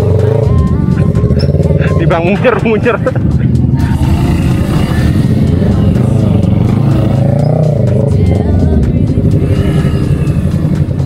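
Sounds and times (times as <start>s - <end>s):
loud music playing: 0.0s - 11.0s
motorcycle engine running: 0.0s - 11.0s.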